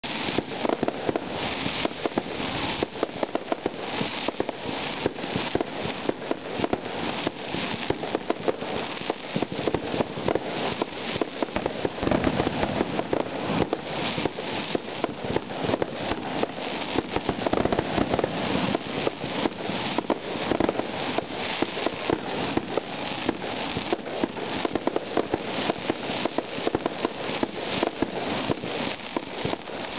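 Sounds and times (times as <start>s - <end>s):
fireworks bursting and crackling: 0.0s - 29.9s.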